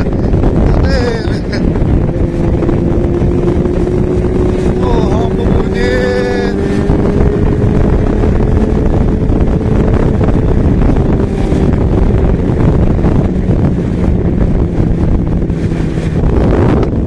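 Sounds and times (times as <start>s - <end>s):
motorcycle engine at road speed: 0.0s - 17.0s
wind buffeting microphone: 0.0s - 17.0s.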